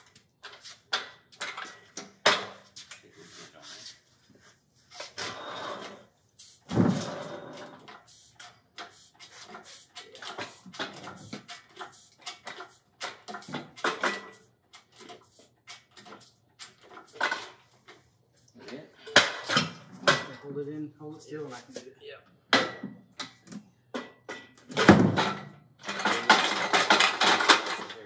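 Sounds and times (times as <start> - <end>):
metal parts clunking and scraping: 0.0 - 4.0, 4.8 - 20.6, 22.5 - 28.0.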